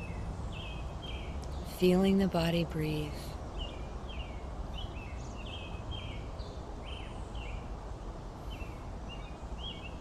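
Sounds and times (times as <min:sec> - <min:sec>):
birds chirping: 0:00.0 - 0:10.0
low background hum: 0:00.0 - 0:10.0.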